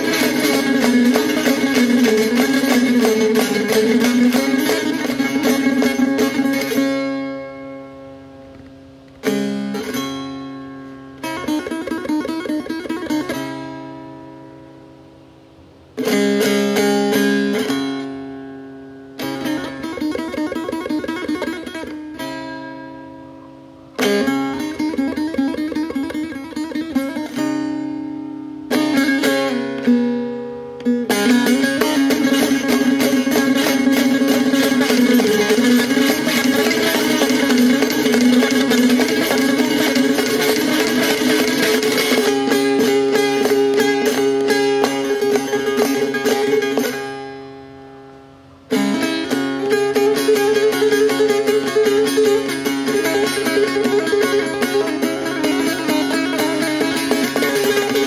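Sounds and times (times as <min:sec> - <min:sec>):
strummed lute: 0:00.0 - 0:58.0.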